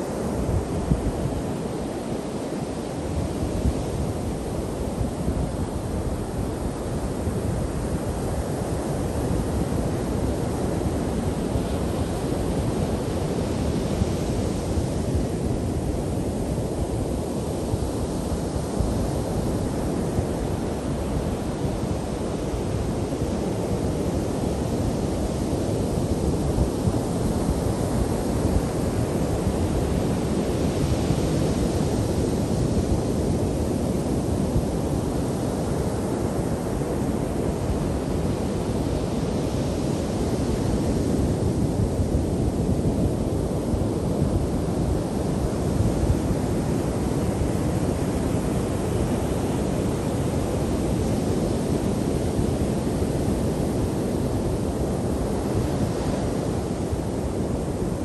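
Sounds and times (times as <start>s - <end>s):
ocean surf breaking on beach: 0.1s - 58.0s.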